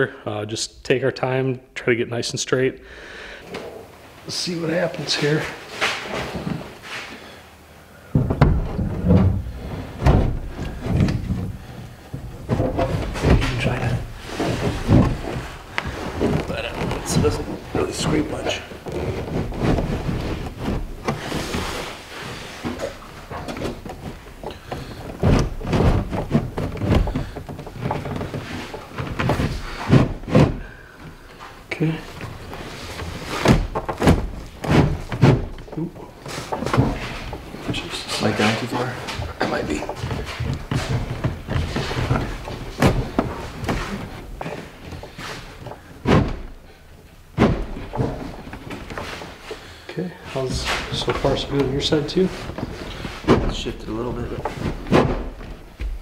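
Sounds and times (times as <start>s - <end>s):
board scraping against metal hull: 8.1s - 31.6s, 32.3s - 56.0s.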